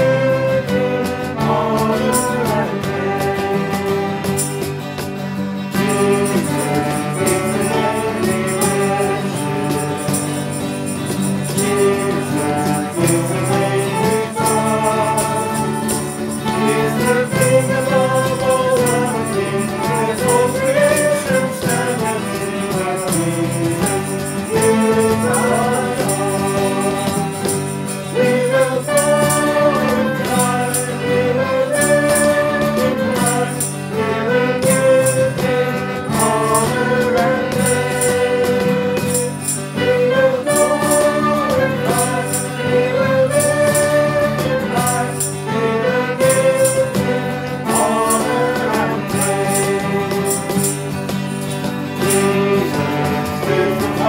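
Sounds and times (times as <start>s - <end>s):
group singing worship song: 0.0s - 4.7s, 5.7s - 54.0s
instrumental backing: 0.0s - 54.0s
light percussion beat: 0.0s - 54.0s.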